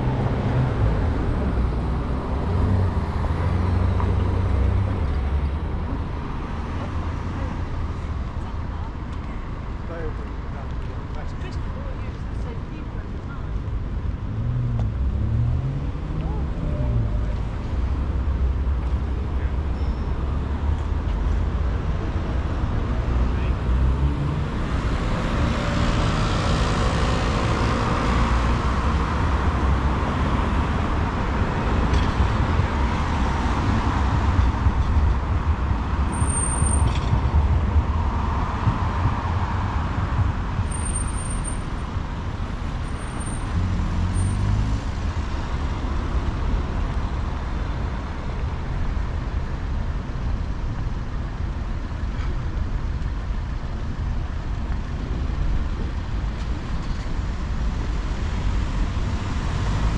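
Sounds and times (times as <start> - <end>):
road traffic rumble: 0.0 - 59.9
vehicles passing: 0.0 - 59.9.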